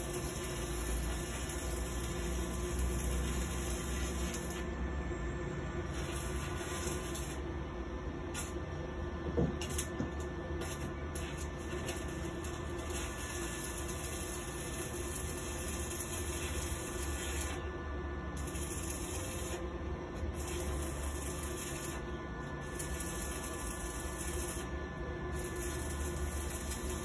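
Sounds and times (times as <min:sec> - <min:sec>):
arc welding hiss: 0:00.0 - 0:04.7, 0:05.8 - 0:07.5, 0:10.6 - 0:17.7, 0:18.4 - 0:27.0.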